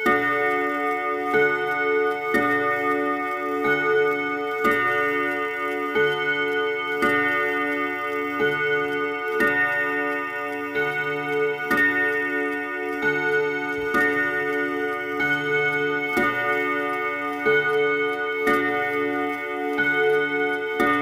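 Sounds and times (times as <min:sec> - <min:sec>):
clock gong chimes: 0:00.0 - 0:21.0
clock ticking: 0:00.0 - 0:21.0.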